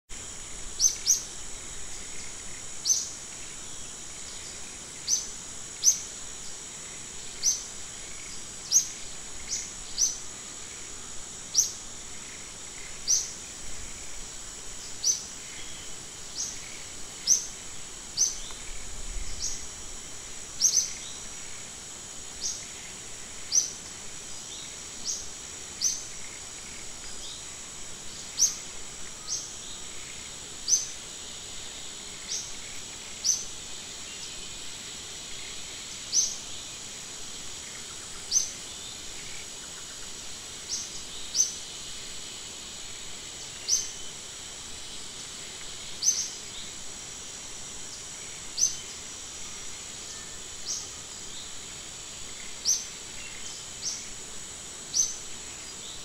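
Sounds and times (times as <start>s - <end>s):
high-pitched insect drone: 0.1s - 56.0s.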